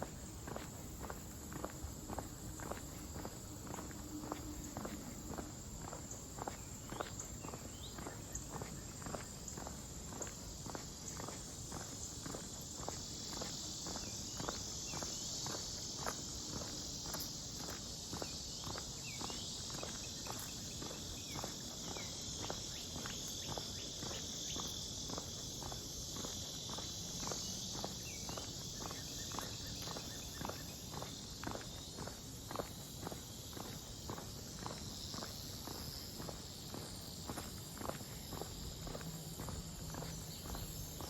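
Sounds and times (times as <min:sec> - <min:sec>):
footsteps walking: 0:00.0 - 0:41.0
high-pitched insect drone: 0:00.0 - 0:41.0.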